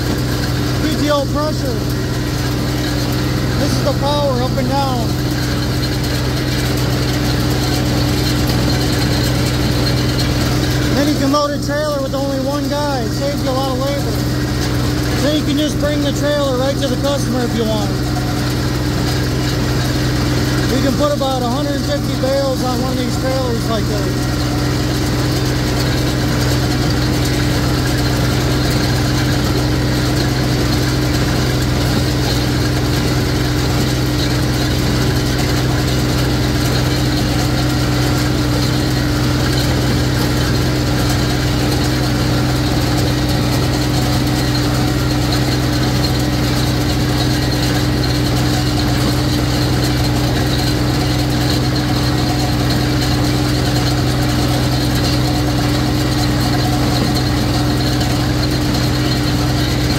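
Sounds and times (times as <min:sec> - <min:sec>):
tractor engine humming: 0:00.0 - 0:59.9.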